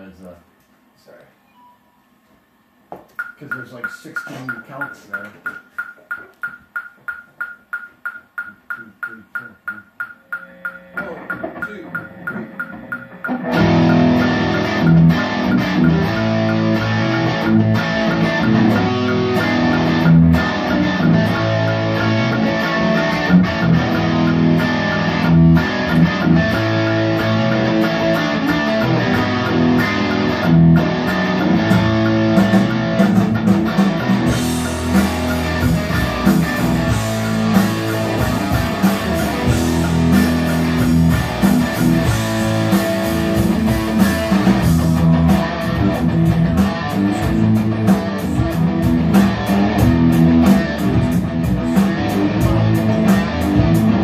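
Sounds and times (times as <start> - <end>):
backing track with drums and bass: 3.0 - 54.0
metronome clicks: 3.1 - 51.0
electric guitar rock rhythm: 3.1 - 54.0.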